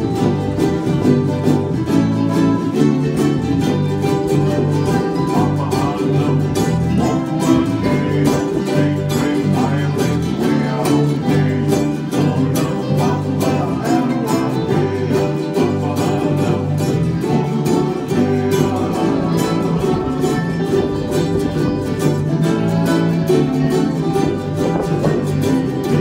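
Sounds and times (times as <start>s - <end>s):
ukuleles strumming chords: 0.0s - 26.0s.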